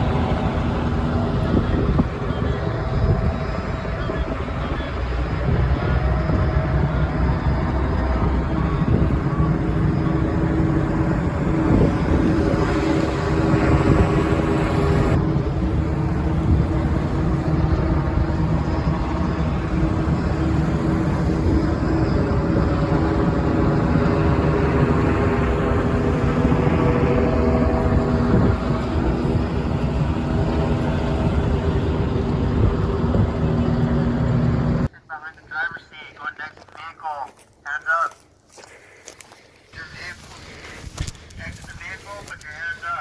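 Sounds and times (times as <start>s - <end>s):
car engine and road rumble: 0.0s - 36.4s.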